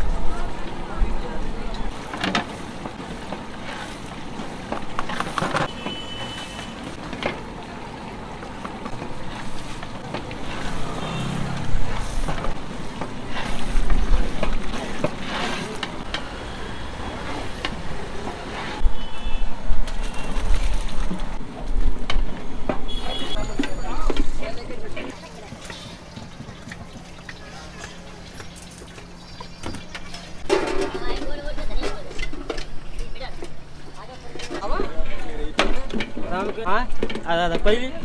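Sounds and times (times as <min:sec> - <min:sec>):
street traffic: 0:00.0 - 0:38.0.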